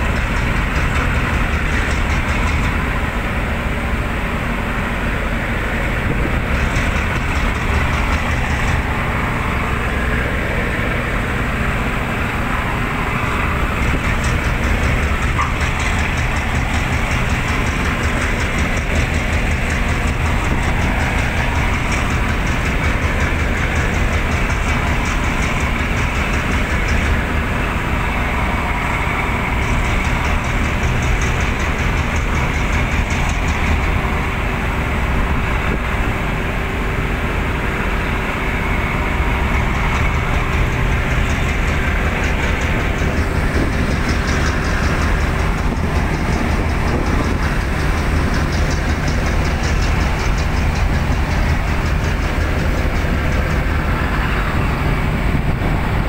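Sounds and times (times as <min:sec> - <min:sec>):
constant rushing noise: 0:00.0 - 0:56.0
ship engines droning: 0:00.0 - 0:56.0.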